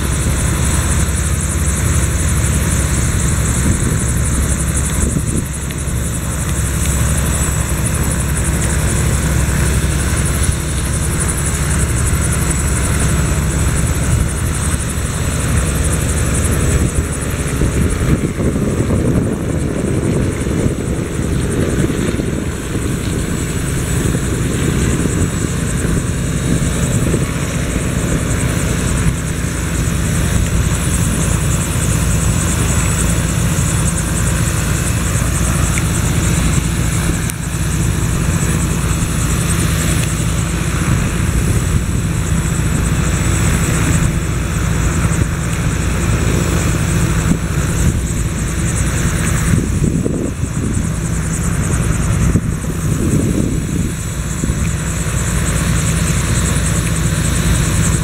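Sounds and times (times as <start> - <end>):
helicopter blades beating: 0.0 - 58.0
helicopter engine and rotor noise: 0.0 - 58.0
high whine: 0.0 - 58.0.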